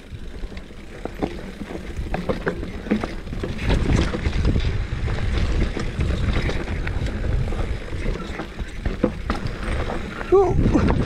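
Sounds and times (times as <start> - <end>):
wind buffeting microphone: 0.0 - 11.0
bike tyres knocking over stones: 0.2 - 11.0.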